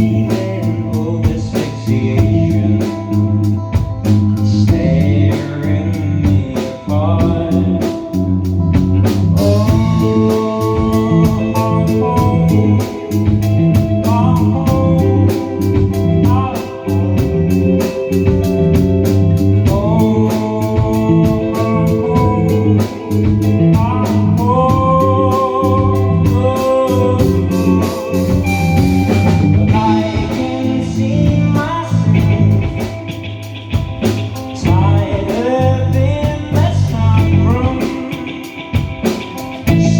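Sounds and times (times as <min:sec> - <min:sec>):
person singing lead vocals: 0:00.0 - 0:39.9
rock band playing live: 0:00.0 - 0:39.9.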